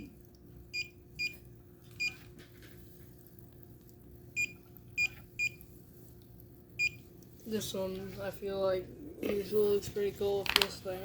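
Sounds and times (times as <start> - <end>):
faint hum of unit running: 0.0 - 11.0.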